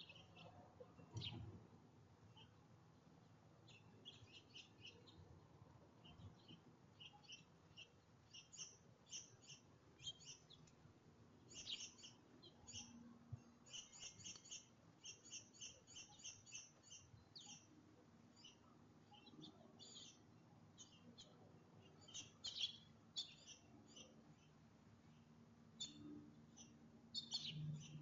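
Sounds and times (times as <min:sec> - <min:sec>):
small songbirds chirping: 0:00.0 - 0:01.5, 0:02.2 - 0:10.8, 0:11.4 - 0:28.0.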